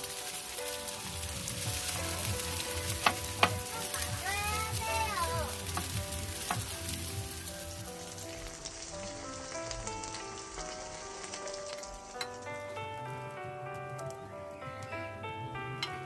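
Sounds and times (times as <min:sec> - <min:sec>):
food sizzling in a pan: 0:00.0 - 0:13.4
background music of held notes: 0:00.0 - 0:16.0.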